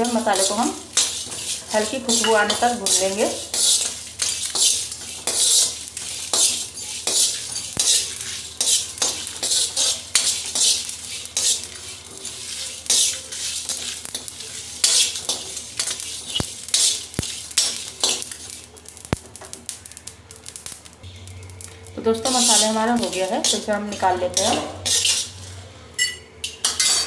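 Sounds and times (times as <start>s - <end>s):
spatula scraping spices in pan: 0.0s - 19.1s, 21.3s - 25.6s, 26.6s - 27.0s.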